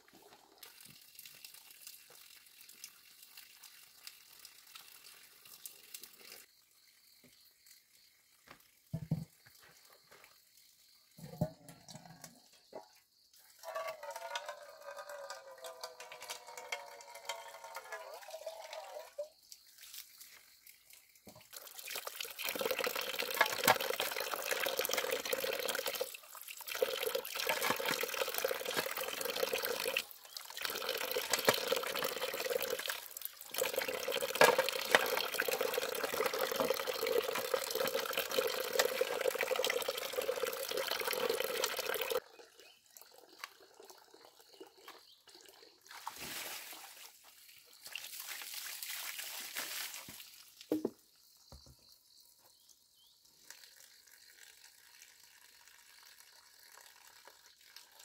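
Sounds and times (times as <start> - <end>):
water running in a stream: 0.0 - 58.0.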